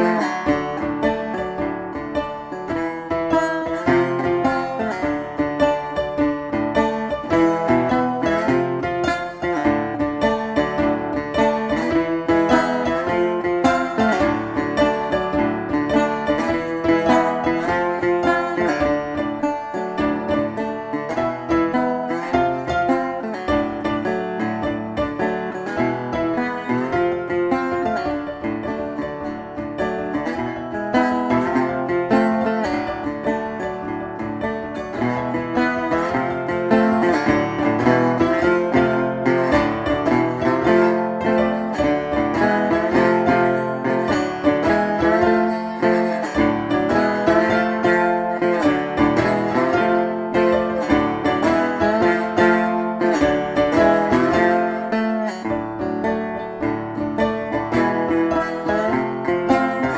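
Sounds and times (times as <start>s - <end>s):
guitar-led plucked string music: 0.0s - 59.9s.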